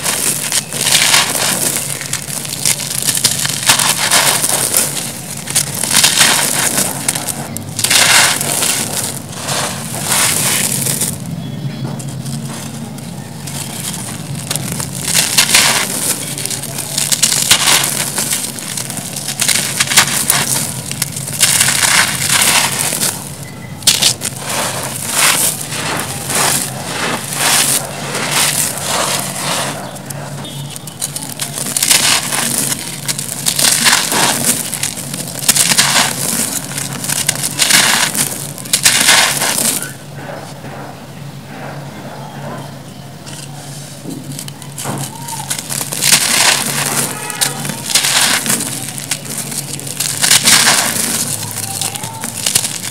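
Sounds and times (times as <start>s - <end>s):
crumbs and dust pouring: 0.0s - 40.0s, 43.3s - 52.9s
hands crushing dry concrete: 0.0s - 40.6s, 43.2s - 52.9s.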